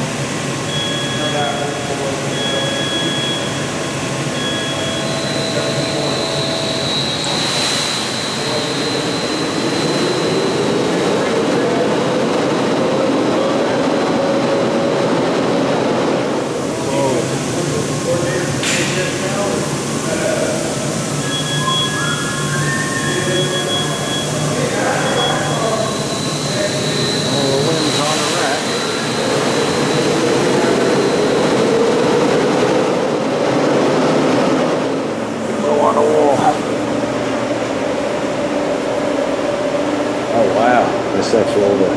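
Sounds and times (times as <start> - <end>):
factory machinery running: 0.0 - 41.9
high whine: 0.0 - 41.9.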